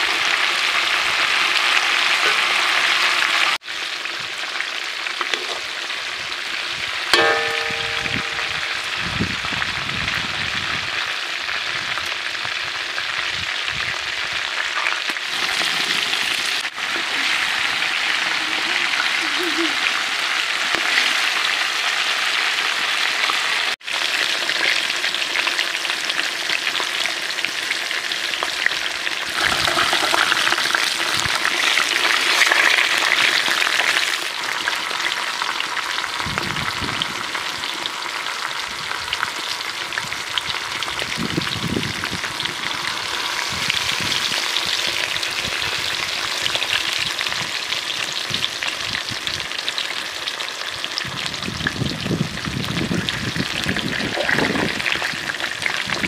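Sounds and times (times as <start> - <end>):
chicken deep-frying in oil: 0.0 - 56.0.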